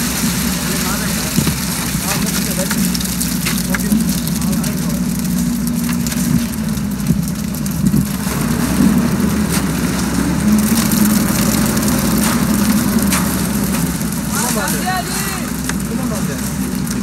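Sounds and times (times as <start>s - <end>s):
truck engine running: 0.0s - 17.0s
wet concrete sliding down chute: 0.0s - 17.0s.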